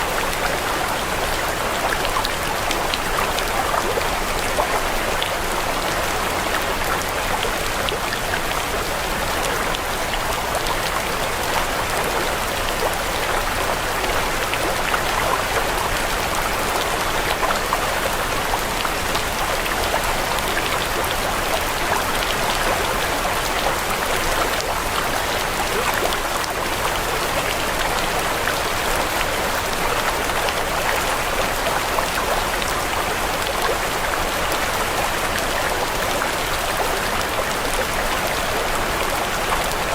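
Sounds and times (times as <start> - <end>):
water patter like rain: 0.0 - 39.9.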